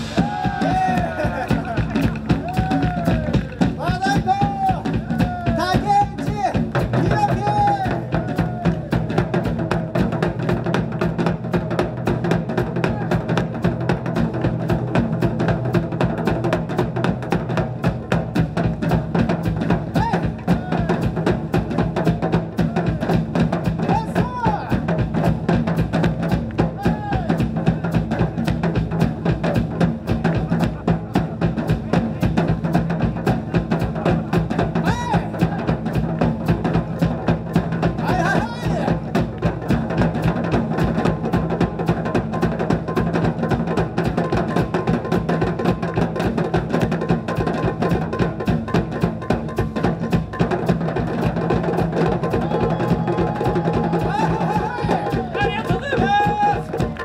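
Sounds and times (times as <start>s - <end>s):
taiko drums ensemble: 0.0s - 57.0s.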